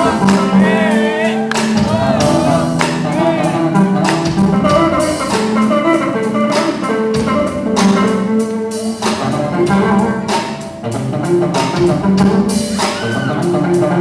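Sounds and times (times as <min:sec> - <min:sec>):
band playing steady beat: 0:00.0 - 0:14.0.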